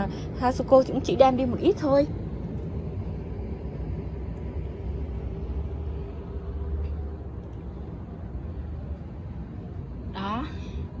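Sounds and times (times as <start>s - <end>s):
air handler running: 0.0s - 11.0s.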